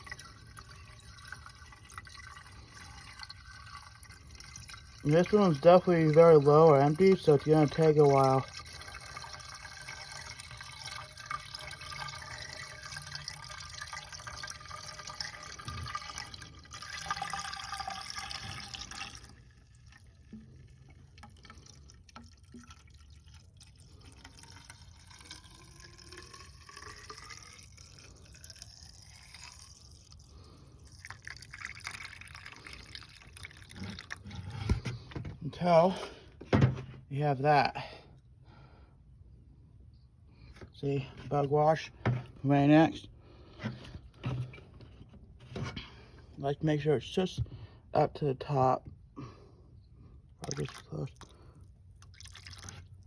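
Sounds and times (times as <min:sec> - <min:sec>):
fluid pouring and gurgling: 0:00.0 - 0:36.8, 0:40.6 - 0:46.3, 0:50.2 - 0:53.0.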